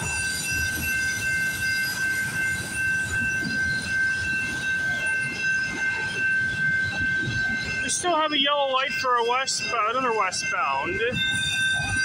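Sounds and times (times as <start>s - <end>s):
constant high-pitched tone: 0.0s - 12.0s
train wheels rumbling on rail: 0.0s - 12.0s.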